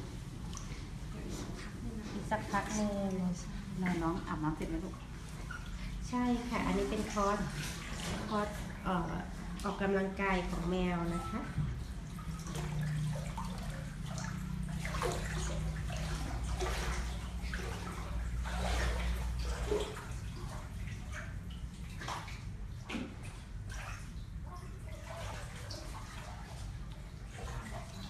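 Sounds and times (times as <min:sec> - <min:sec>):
steady low hum: 0:00.0 - 0:28.0
water sloshing and splashing: 0:00.0 - 0:28.0.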